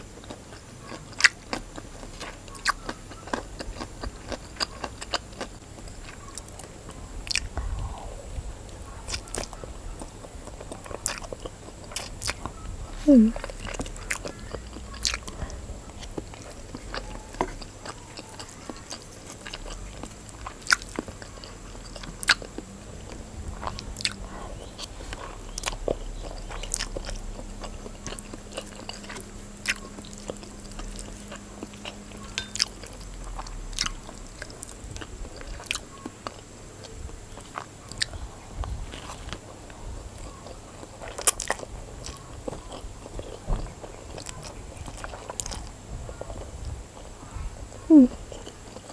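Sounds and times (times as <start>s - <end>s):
chewing noodles: 0.0s - 48.9s.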